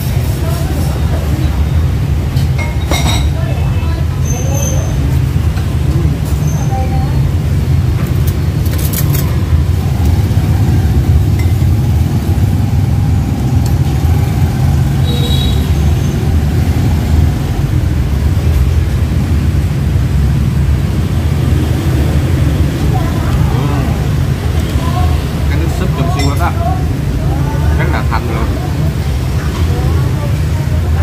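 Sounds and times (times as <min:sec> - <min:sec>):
street traffic rumble: 0:00.0 - 0:31.0.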